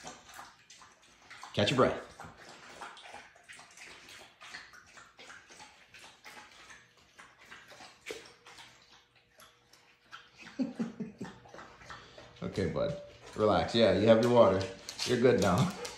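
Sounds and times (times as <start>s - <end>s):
dog lapping water from metal bowl: 0.0s - 15.9s.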